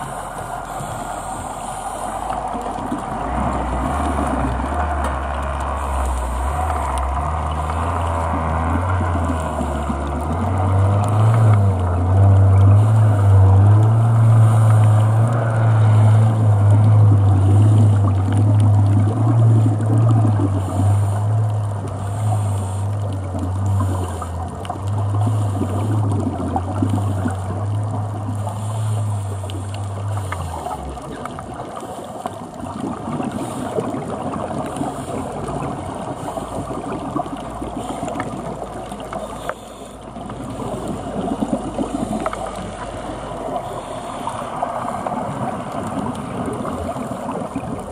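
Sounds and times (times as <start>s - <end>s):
diver's exhaled air bubbling: 0.0s - 47.9s
underwater boat engine drone: 0.0s - 47.9s.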